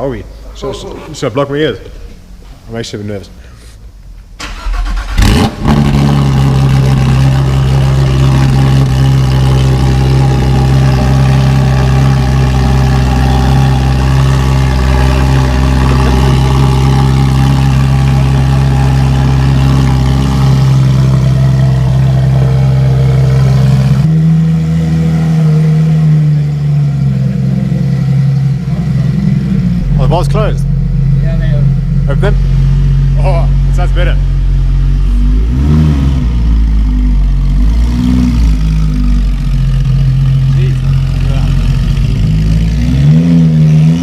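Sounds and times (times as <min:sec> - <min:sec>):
car engine idling: 0:03.2 - 0:44.0
car engine starting: 0:03.3 - 0:44.0.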